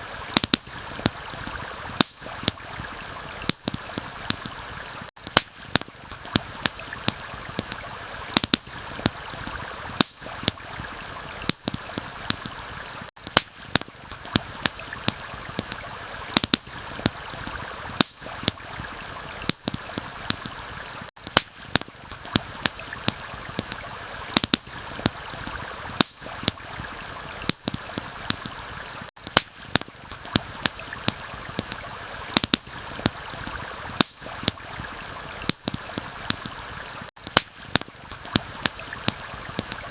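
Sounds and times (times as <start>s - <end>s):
campfire crackling and popping: 0.0s - 39.9s
forest stream rushing: 0.0s - 39.9s.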